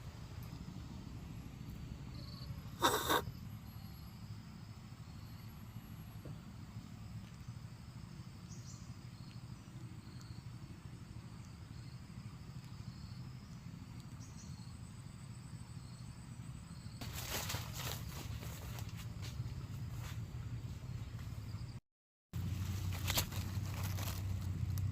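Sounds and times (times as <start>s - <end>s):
insects chirring: 0.0s - 21.8s, 22.4s - 24.9s.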